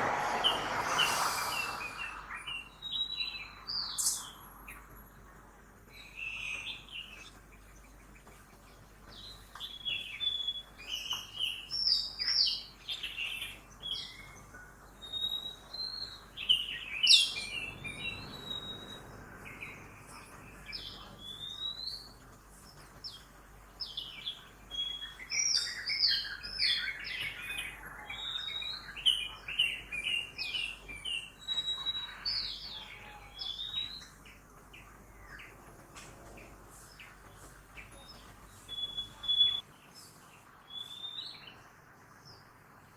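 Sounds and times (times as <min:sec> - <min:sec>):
faint city traffic: 0:00.0 - 0:10.4, 0:11.9 - 0:42.9
birds chirping and trilling: 0:00.0 - 0:42.5.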